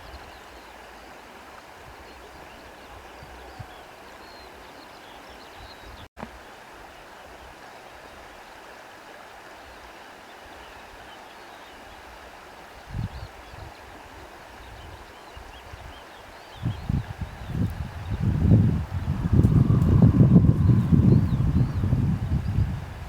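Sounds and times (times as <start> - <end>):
wind through vegetation: 0.0 - 23.0.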